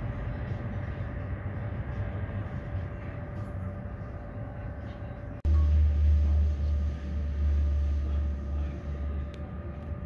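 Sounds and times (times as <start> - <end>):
deep steady rumble: 0.0 - 10.0
distant aircraft engines humming: 0.0 - 10.0.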